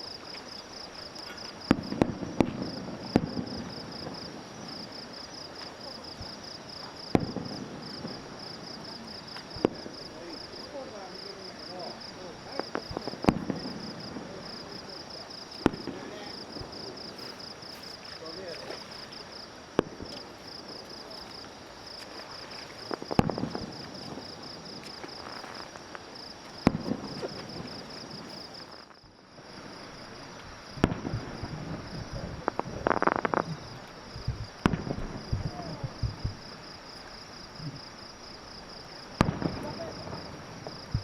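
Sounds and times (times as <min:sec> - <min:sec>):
fireworks bangs: 0:00.0 - 0:41.0
fireworks crackling: 0:00.0 - 0:41.0
insects trilling: 0:00.0 - 0:41.0.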